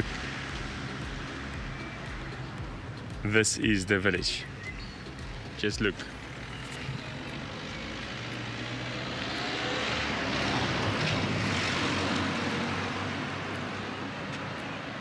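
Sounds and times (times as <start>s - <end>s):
passing vehicle engine hum: 0.0s - 15.0s.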